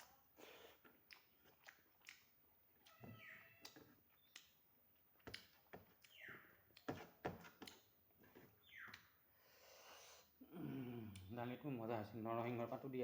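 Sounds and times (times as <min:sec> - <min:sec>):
soft chewing and mouth sounds: 0:00.0 - 0:11.4.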